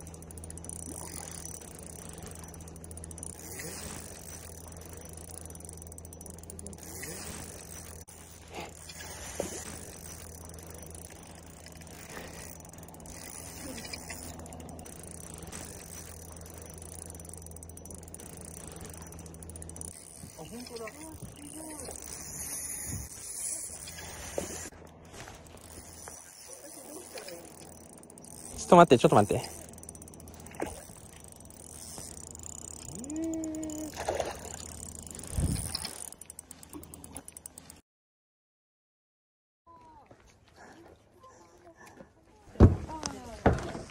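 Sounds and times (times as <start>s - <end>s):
fishing reel whirring and ratcheting: 0.0s - 37.8s
steady low hum: 0.0s - 37.8s.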